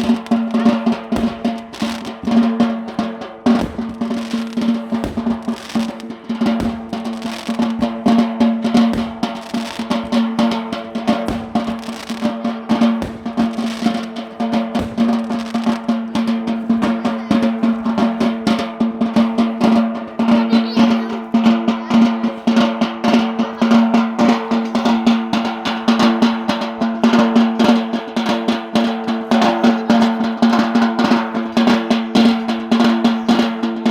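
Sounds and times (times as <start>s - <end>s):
rapid drum strikes: 0.0s - 33.9s.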